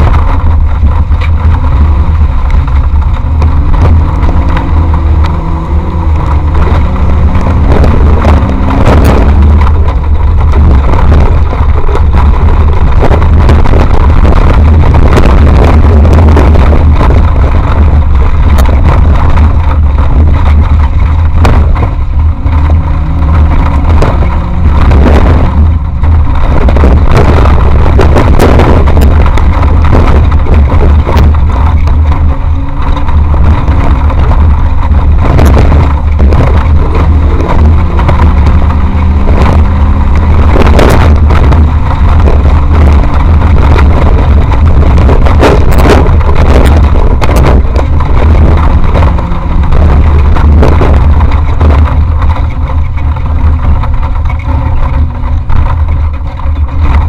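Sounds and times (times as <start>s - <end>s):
off-road vehicle engine rumbling: 0.0s - 57.0s.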